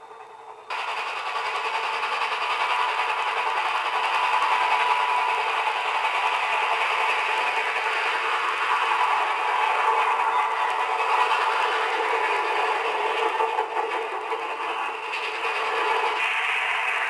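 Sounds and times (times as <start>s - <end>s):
clatter of train wheels: 0.0s - 17.0s
steam locomotive exhaust: 0.0s - 17.0s.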